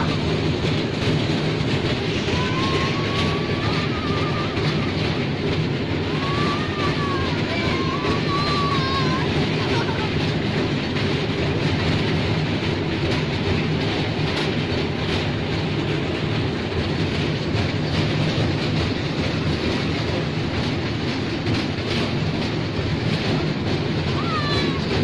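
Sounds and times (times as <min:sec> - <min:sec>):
ride train rumbling: 0:00.0 - 0:25.0
train clacking: 0:00.0 - 0:25.0.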